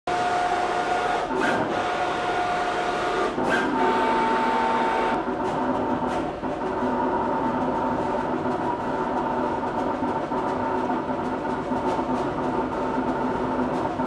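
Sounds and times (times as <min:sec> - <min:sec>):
cutting plotter motors whining: 0:00.1 - 0:14.0.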